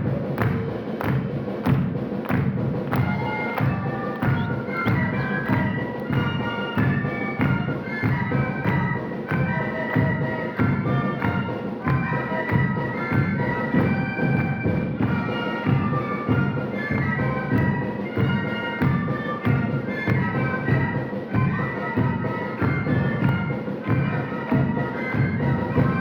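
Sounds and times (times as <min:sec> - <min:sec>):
steady drum beat: 0:00.0 - 0:26.0
reedy wind instruments: 0:02.9 - 0:26.0.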